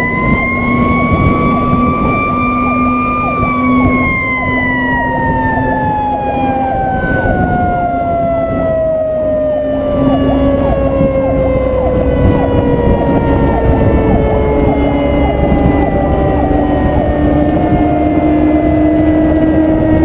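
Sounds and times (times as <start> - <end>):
fire truck siren winding down: 0.0 - 20.0
truck rumble and road noise: 0.0 - 20.0.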